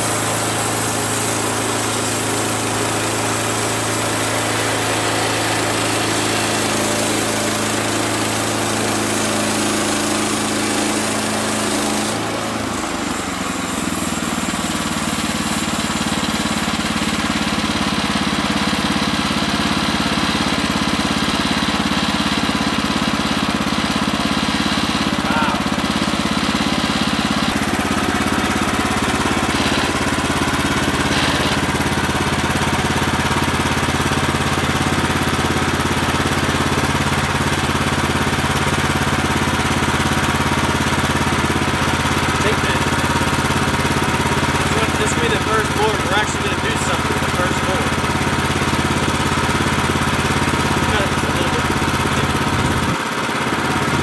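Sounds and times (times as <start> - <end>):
sawmill engine running under load: 0.0 - 54.0.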